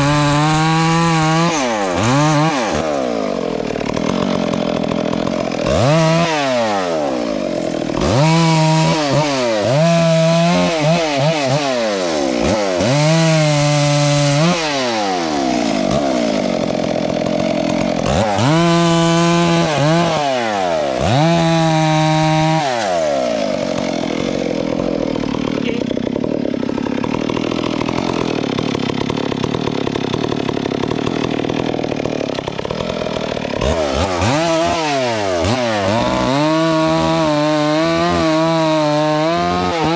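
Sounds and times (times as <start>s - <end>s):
chainsaw cutting through wood: 0.0s - 39.9s
chainsaw revving: 0.0s - 39.9s.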